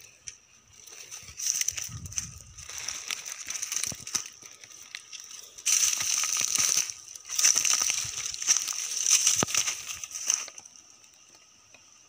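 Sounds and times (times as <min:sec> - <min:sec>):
steady high buzz: 0:00.0 - 0:12.0
footsteps crunching through dry leaves: 0:00.6 - 0:10.8.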